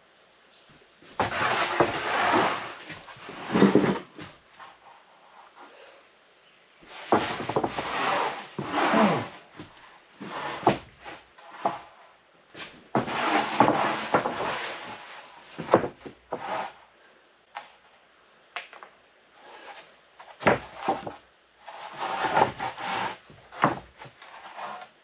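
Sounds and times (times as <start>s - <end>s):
boards scraping over boards: 1.0s - 5.8s, 6.8s - 16.8s, 19.4s - 25.0s.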